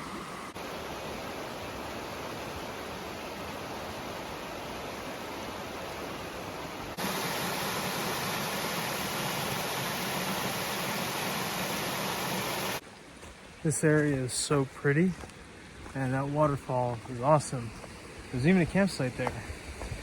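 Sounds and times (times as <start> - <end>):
flowing creek water: 0.0 - 20.0
waterfall: 0.0 - 20.0.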